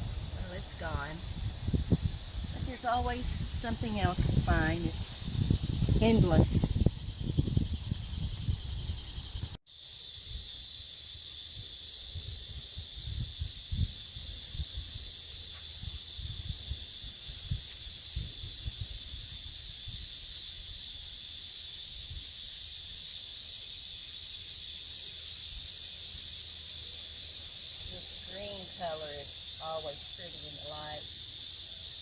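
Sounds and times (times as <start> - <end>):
high-pitched insect call: 0.0 - 32.0
insect buzzing drone: 0.0 - 32.0.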